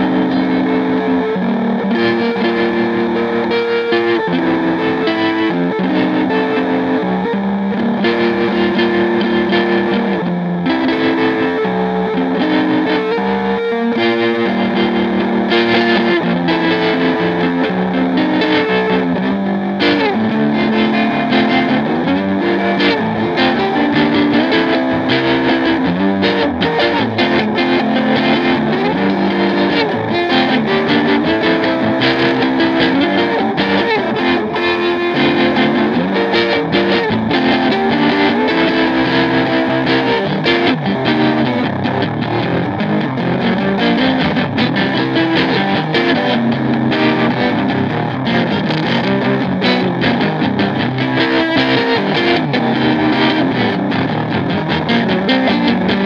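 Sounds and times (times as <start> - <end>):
distorted guitar playing chords: 0.0 - 56.0.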